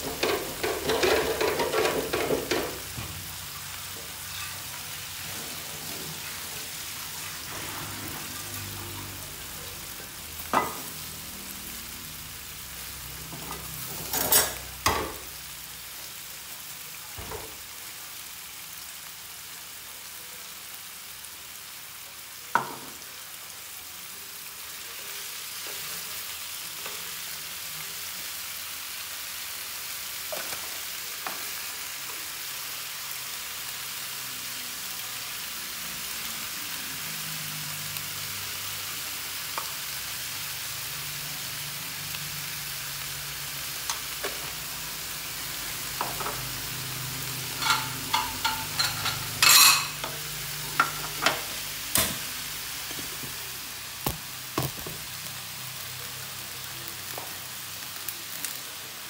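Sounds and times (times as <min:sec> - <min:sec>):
greens sizzling in a pan: 0:00.0 - 0:59.0.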